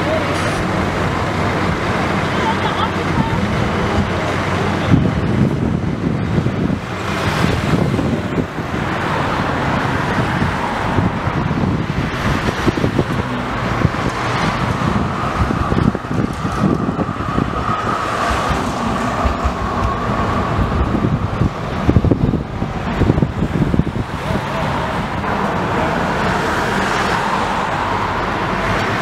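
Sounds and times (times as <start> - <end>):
trams and traffic rumbling past: 0.0 - 29.0.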